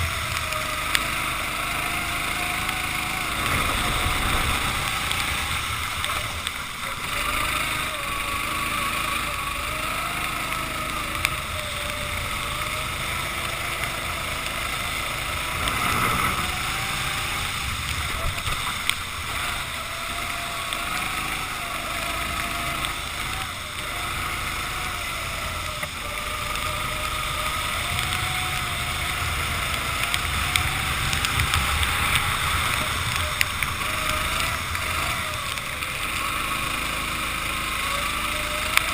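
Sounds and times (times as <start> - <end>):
kart engine revving: 0.0 - 38.9
steady rushing noise: 0.0 - 38.9.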